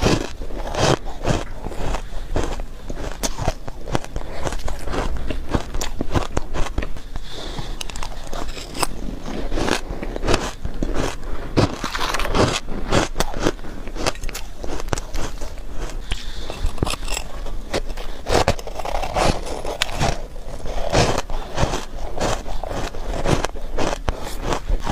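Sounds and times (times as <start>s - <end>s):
crunching shaved ice: 0.0s - 24.9s.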